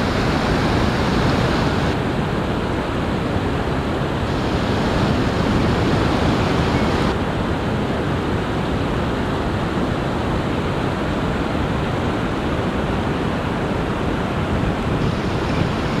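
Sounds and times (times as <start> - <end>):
fast river water rushing: 0.0 - 16.0.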